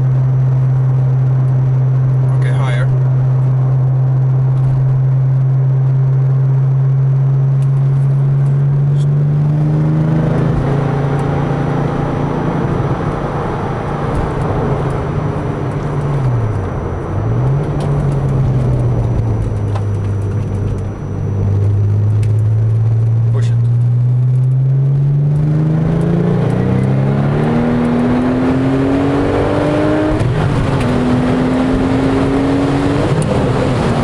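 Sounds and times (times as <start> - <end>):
car engine heard from cabin: 0.0 - 34.0.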